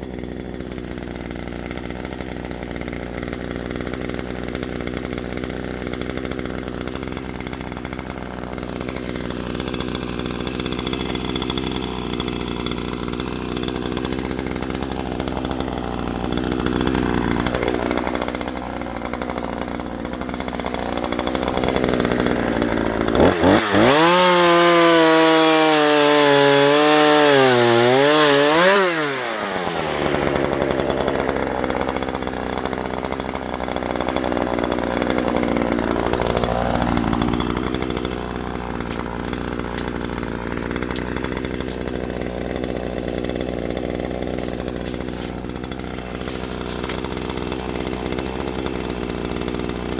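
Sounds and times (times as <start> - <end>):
engine running steadily: 0.0 - 49.9
small high-revving engine: 0.0 - 49.9.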